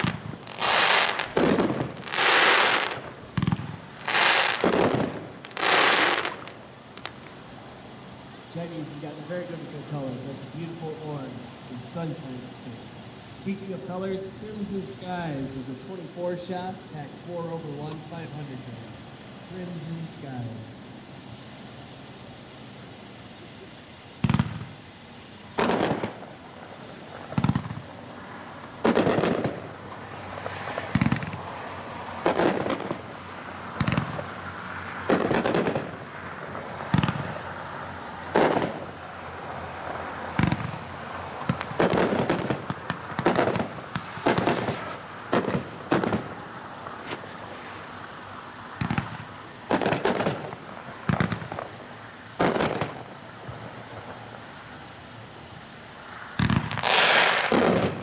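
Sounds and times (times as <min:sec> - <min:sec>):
distant fireworks booms: 0:00.0 - 0:58.0.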